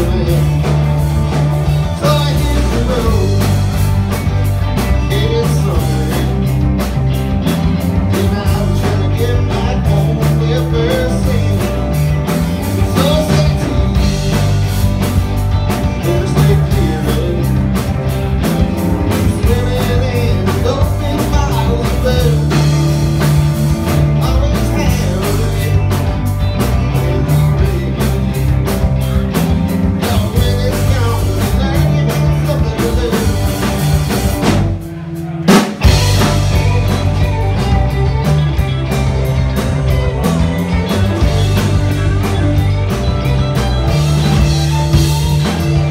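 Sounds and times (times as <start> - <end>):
blues rock band playing: 0.0 - 45.9.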